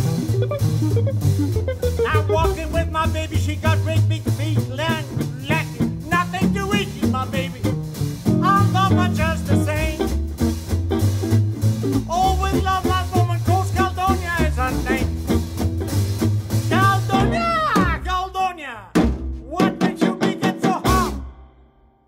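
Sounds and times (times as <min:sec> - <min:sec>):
blues band playing: 0:00.0 - 0:21.5.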